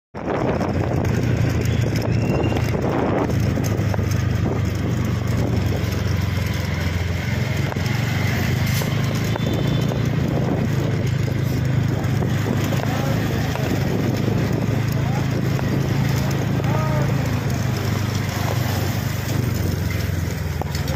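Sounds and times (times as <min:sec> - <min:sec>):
road and wind noise: 0:00.1 - 0:20.9
motorcycle engine humming: 0:00.2 - 0:20.9.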